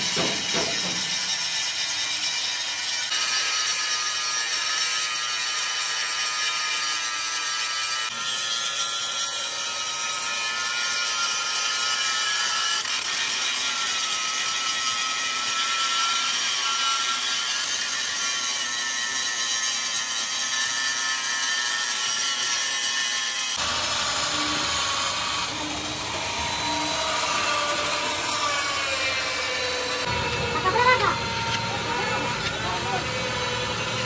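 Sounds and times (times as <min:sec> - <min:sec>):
power tool running: 0:00.0 - 0:34.0.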